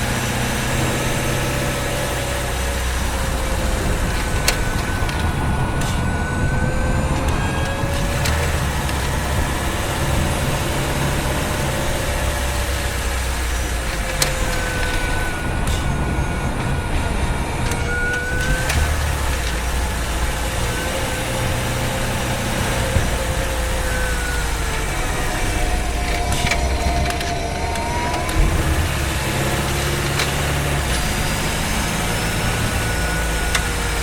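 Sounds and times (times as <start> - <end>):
car powertrain low rumble: 0.0 - 34.0
thin whining tones: 0.0 - 34.0.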